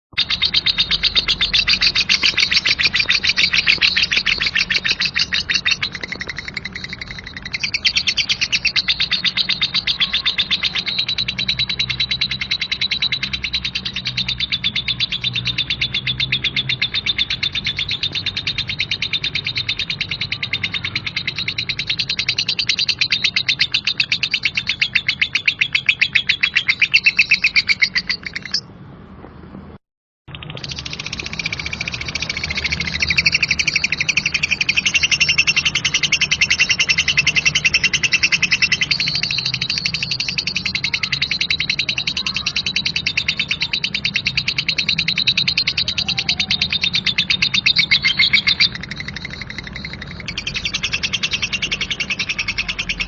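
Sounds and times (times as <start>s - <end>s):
lovebird chattering chirps: 0.1s - 28.7s, 30.3s - 53.0s.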